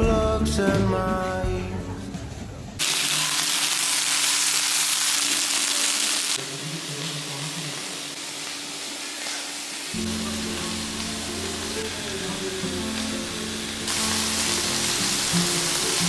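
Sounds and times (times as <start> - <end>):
vegetables sizzling in a pan: 2.8 - 16.0.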